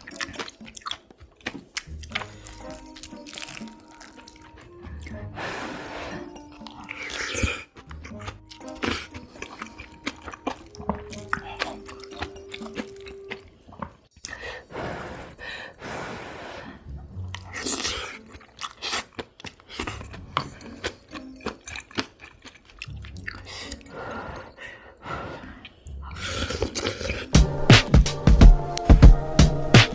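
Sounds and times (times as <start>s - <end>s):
crunchy chewing: 0.0s - 15.8s, 16.6s - 27.4s.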